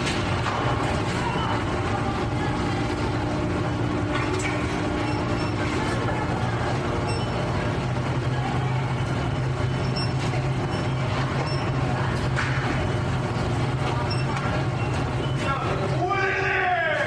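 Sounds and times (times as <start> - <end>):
factory machinery humming: 0.0 - 17.0.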